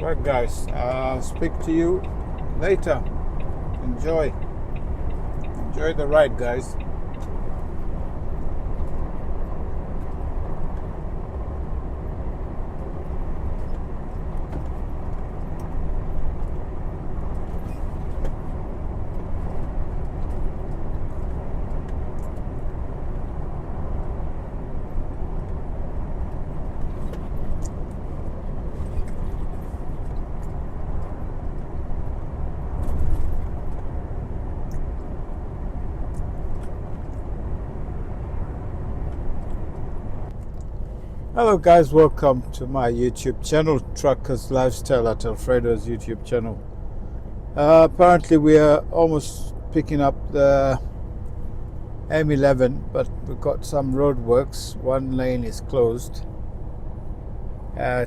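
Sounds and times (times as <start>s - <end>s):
lorry engine and tyre rumble: 0.0s - 58.0s.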